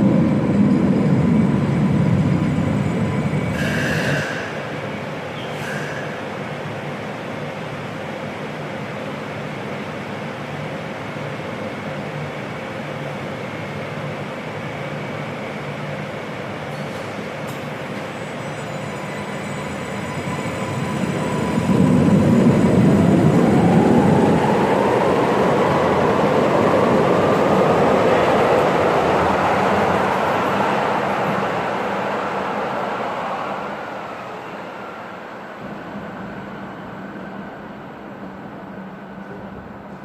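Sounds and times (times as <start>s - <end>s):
light-rail train passing: 0.0s - 40.0s.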